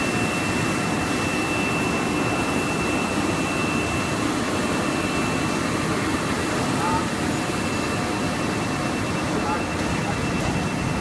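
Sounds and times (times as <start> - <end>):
high mechanical whine: 0.0 - 11.0
machinery running: 0.0 - 11.0.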